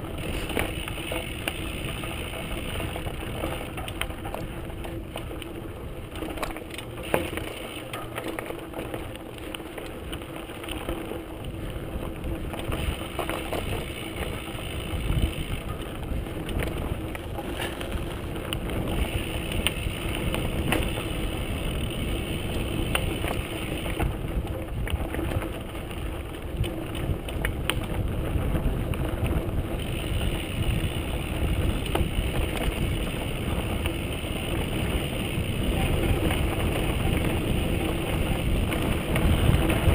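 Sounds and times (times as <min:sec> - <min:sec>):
bike knocks and rattles: 0:00.0 - 0:39.9
bike tyres on dirt: 0:00.0 - 0:39.9.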